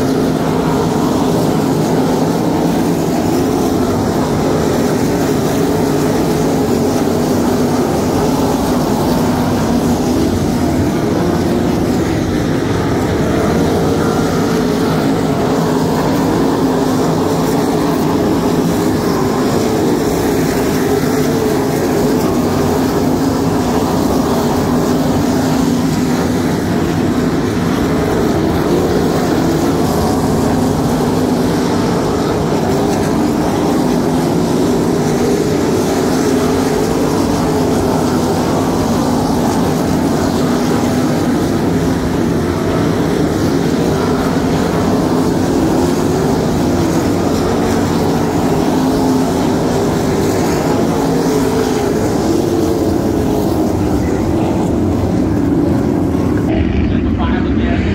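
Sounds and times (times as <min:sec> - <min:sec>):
racing car engines roaring: 0:00.0 - 0:57.9.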